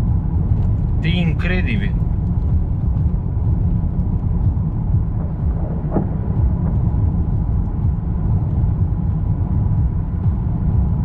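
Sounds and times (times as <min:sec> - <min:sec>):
road noise inside a car: 0:00.0 - 0:11.0
wind buffeting: 0:00.0 - 0:11.0.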